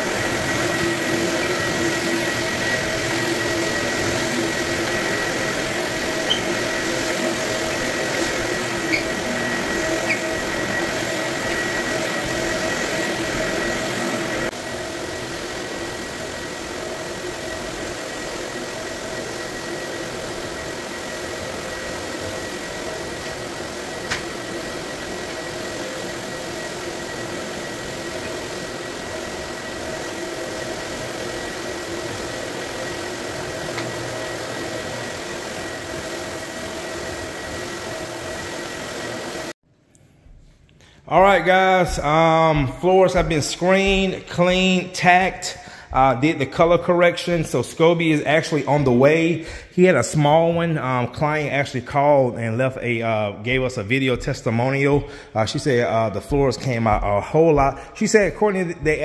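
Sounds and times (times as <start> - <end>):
floor sanding machine humming: 0.0 - 39.6, 41.0 - 59.0.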